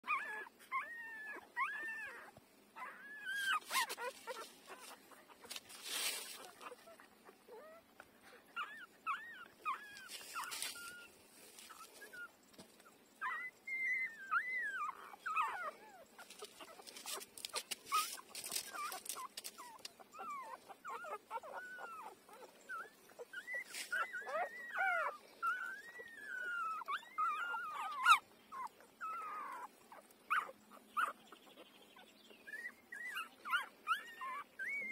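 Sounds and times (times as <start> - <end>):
puppies squeaking and whimpering: 0.0 - 8.0, 8.6 - 34.9.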